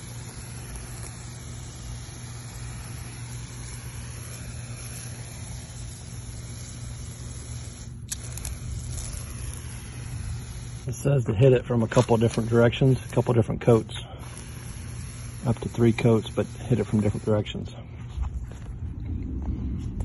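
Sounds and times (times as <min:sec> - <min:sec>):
garden sprayer hissing: 0:00.0 - 0:18.8.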